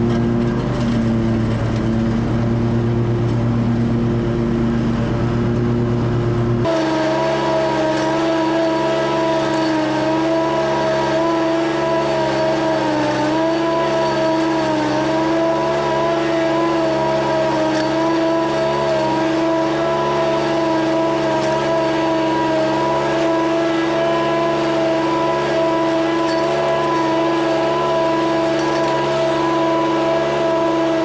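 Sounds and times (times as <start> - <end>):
small petrol engine running: 0.0 - 31.0.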